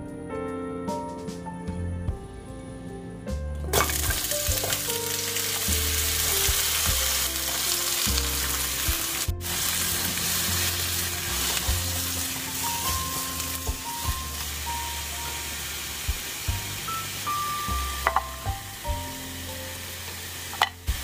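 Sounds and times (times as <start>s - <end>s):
soft background music: 0.0s - 21.0s
vegetables sizzling in hot oil: 3.8s - 21.0s.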